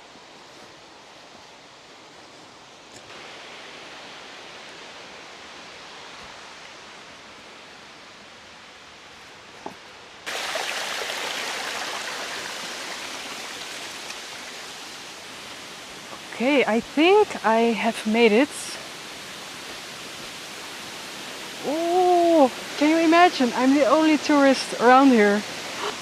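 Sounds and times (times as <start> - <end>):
waterfall rushing water: 0.0 - 26.0.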